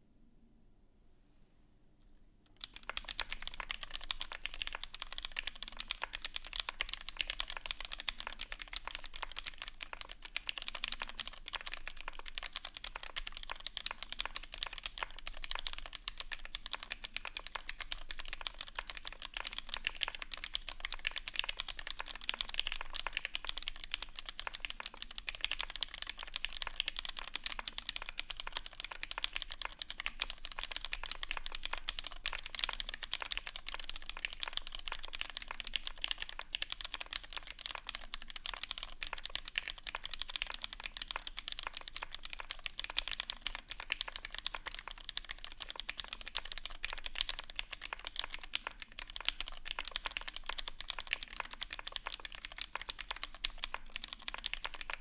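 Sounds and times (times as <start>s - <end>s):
mechanical keyboard typing: 2.6s - 55.0s.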